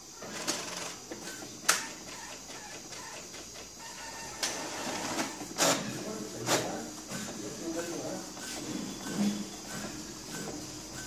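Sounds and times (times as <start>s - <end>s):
inkjet printer whirring: 0.0s - 11.0s
printer sharp clicks: 0.2s - 11.0s.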